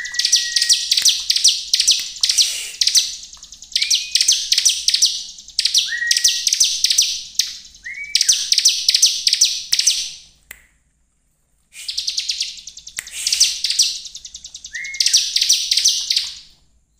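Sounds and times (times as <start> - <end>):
bird trilled chirping: 0.0 - 10.2, 11.8 - 16.6.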